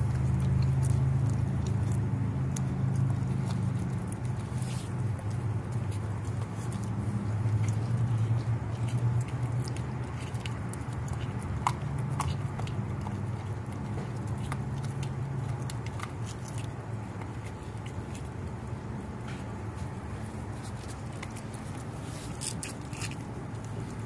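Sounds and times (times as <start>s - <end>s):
dog chewing and crunching fish: 0.0s - 24.0s
steady low hum: 0.0s - 24.0s.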